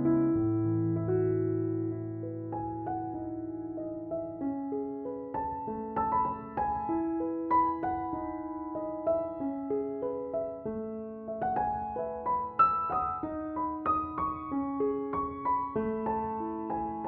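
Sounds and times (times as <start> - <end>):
soft slow piano music: 0.0 - 17.0.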